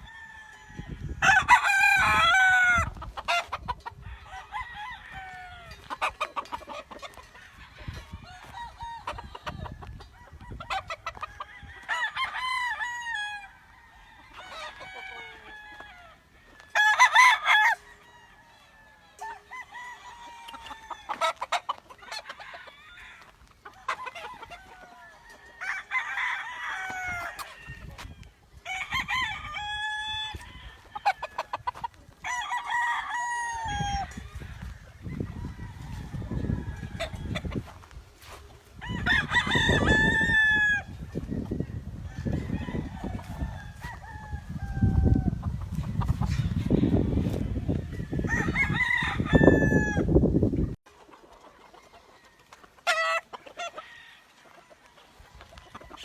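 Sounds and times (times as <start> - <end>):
roosters crowing: 0.0 - 56.0
hens clucking: 0.7 - 56.0.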